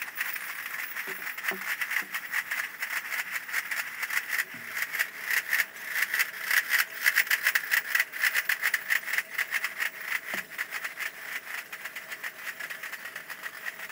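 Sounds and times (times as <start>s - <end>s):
rapid rattling drum strokes: 0.0s - 13.9s.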